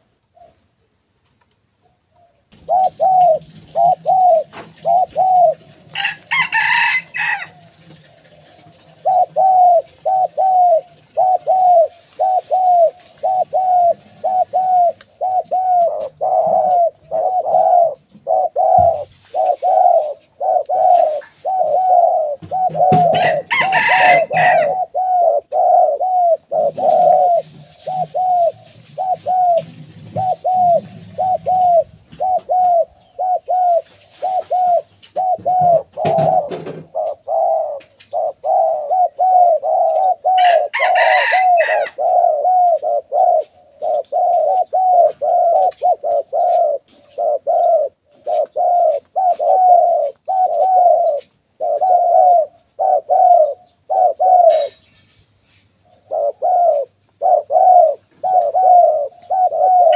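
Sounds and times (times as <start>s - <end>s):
doves cooing: 2.1s - 55.2s, 55.8s - 59.9s.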